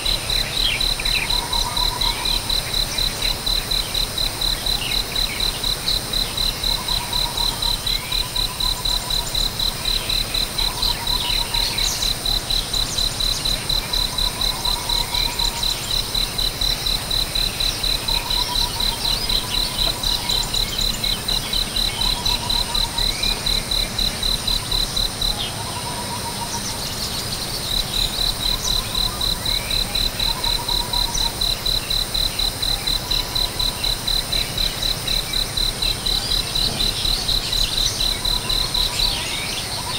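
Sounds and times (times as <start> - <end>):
cricket-like insect chirping: 0.0 - 39.9.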